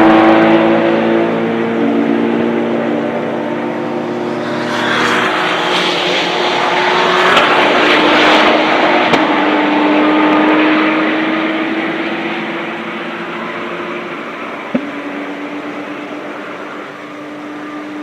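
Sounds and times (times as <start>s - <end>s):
car passing with tyre noise: 0.0s - 18.0s
race car engines at high revs: 0.0s - 18.0s.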